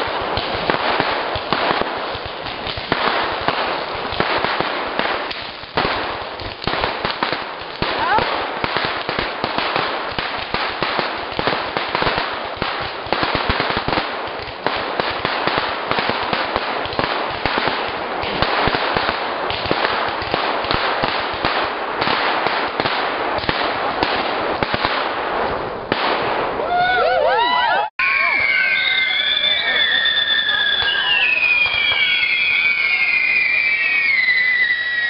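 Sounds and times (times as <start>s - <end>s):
firecrackers popping rapidly: 0.0s - 27.0s, 28.0s - 35.0s.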